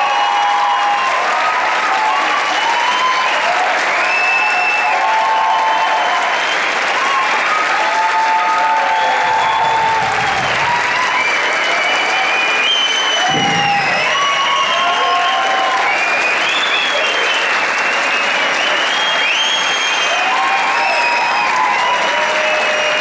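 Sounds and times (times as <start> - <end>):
audience applauding: 0.0 - 23.0
high-pitched cheers and shrieks: 0.0 - 23.0.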